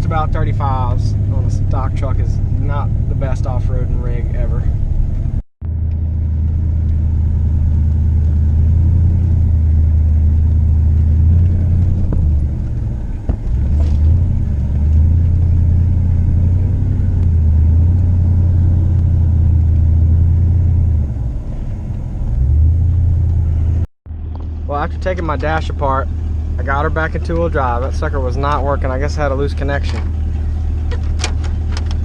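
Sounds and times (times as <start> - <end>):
truck engine rumble: 0.0 - 32.0.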